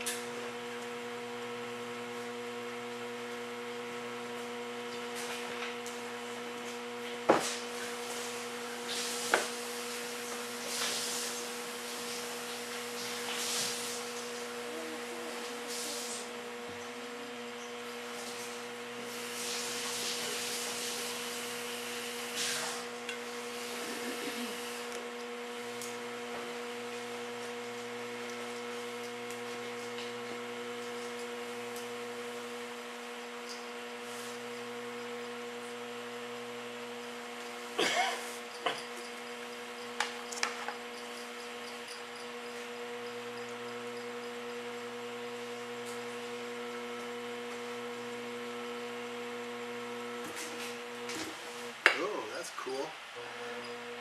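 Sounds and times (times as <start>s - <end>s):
steady electric hum: 0.0s - 54.0s.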